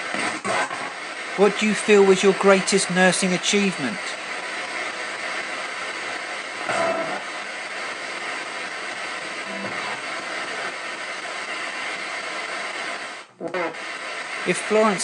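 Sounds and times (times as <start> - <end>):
radio static hiss: 0.0 - 15.0
snatches of broadcast sound: 0.0 - 15.0.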